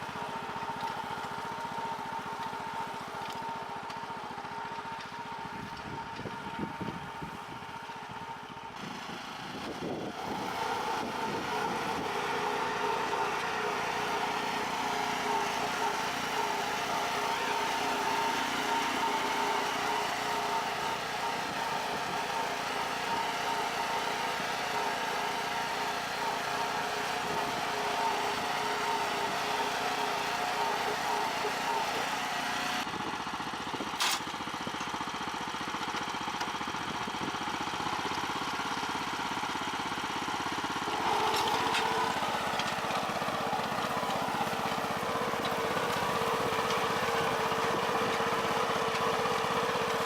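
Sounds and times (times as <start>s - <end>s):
small tractor engine running: 0.0s - 50.0s.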